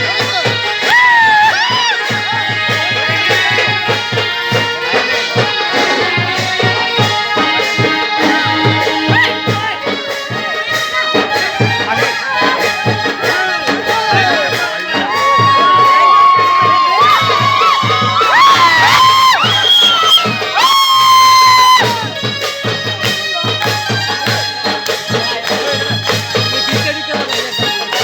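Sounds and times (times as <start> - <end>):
background music with accordion: 0.0 - 16.4, 21.9 - 28.0.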